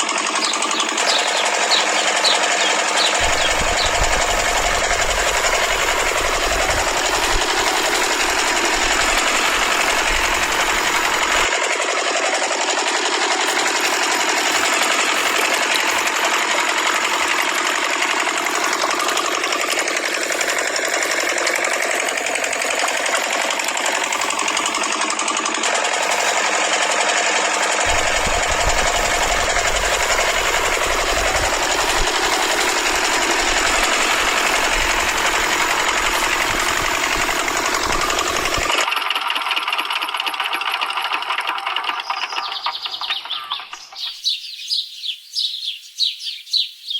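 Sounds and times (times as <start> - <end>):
small motor rattling buzz: 0.0 - 43.2.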